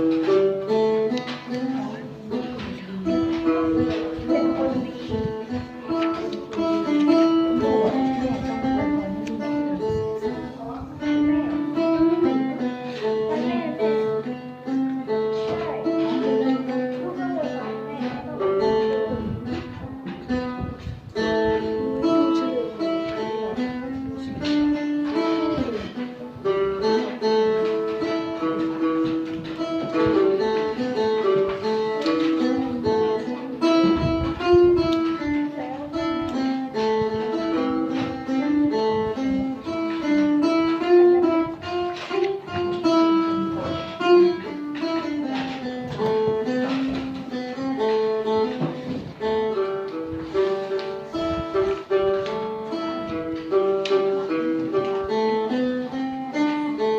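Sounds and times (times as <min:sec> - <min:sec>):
plucked lute melody: 0:00.0 - 0:56.9.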